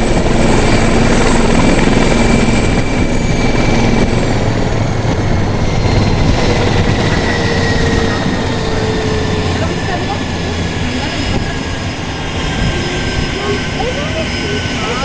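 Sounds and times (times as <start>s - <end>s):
helicopter rotor chop: 0.0s - 15.0s
helicopter turbine whine: 0.0s - 15.0s.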